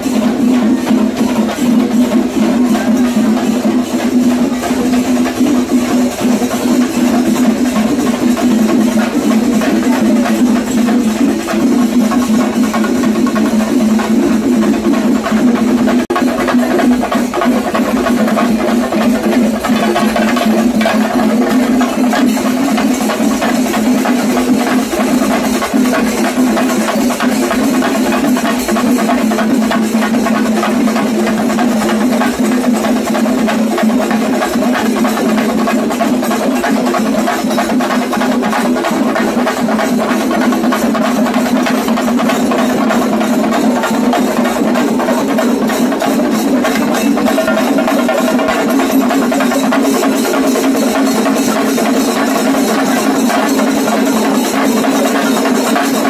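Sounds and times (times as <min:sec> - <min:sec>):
drum ensemble playing fast beat: 0:00.0 - 0:56.0.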